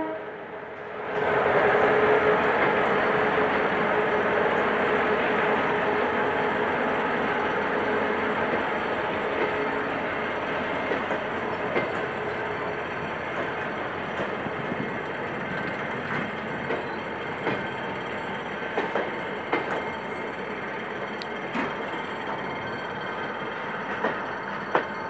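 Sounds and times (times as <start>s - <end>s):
train coaches rumbling past: 0.0s - 25.0s.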